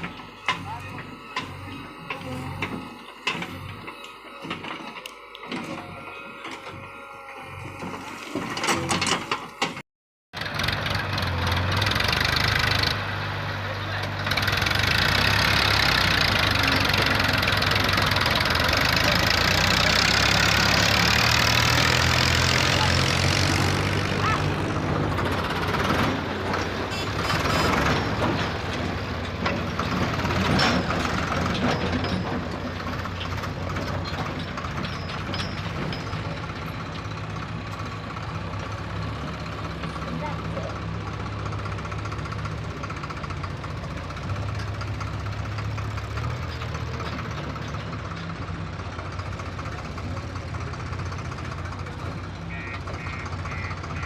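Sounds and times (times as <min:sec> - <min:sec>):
heavy diesel engine running: 0:00.0 - 0:09.8, 0:10.4 - 0:54.0.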